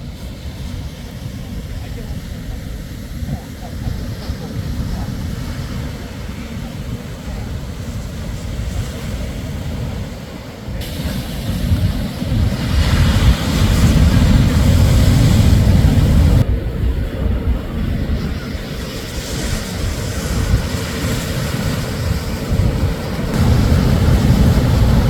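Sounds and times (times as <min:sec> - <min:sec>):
waves crashing on beach: 0:00.0 - 0:16.5, 0:17.9 - 0:25.0.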